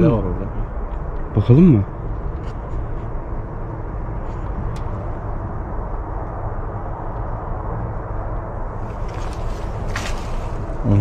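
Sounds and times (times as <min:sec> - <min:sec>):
low rumbling outdoor noise: 0:00.0 - 0:11.0.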